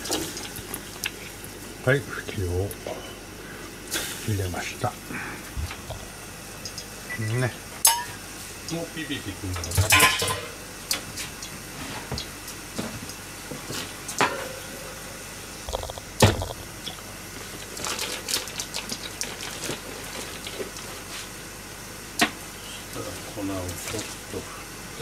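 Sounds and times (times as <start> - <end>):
pots bubbling on burners: 0.0 - 25.0.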